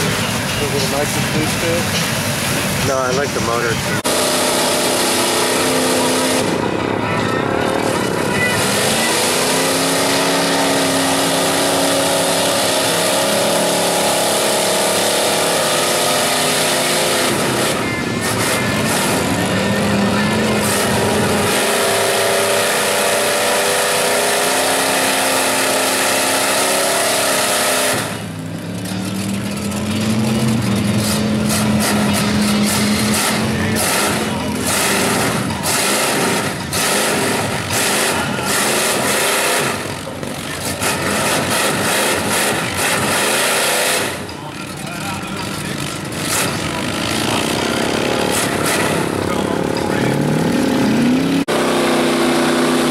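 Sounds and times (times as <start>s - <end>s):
truck engine revving: 0.0s - 52.9s.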